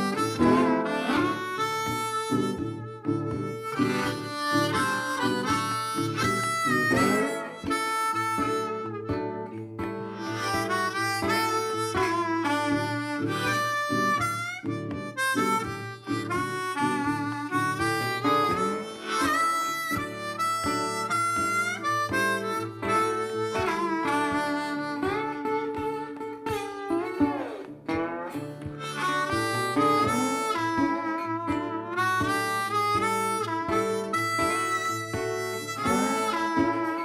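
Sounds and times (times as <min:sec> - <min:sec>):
guitar: 0:00.0 - 0:37.0
harmonica playing a tune: 0:00.0 - 0:37.0.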